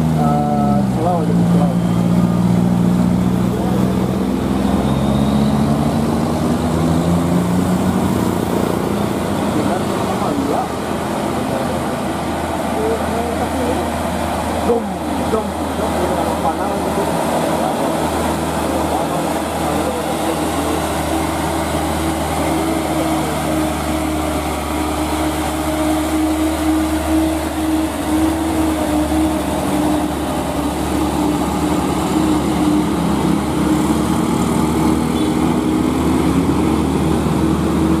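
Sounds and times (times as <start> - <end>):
diesel truck engine droning: 0.0 - 38.0.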